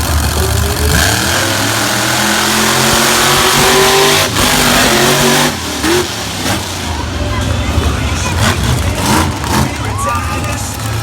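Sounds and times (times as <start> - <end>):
monster truck engines revving: 0.0 - 11.0.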